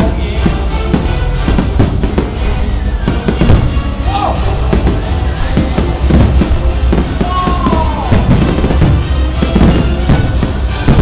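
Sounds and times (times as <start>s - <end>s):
fireworks booming: 0.0s - 11.0s
music playing: 0.0s - 11.0s.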